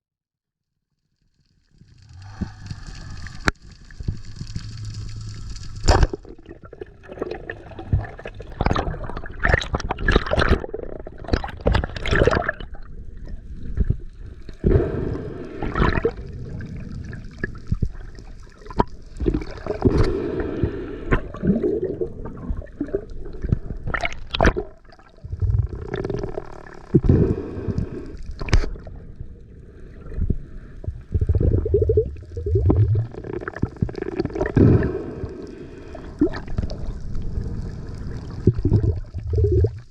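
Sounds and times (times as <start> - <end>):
water sloshing and gurgling: 1.8 - 39.9.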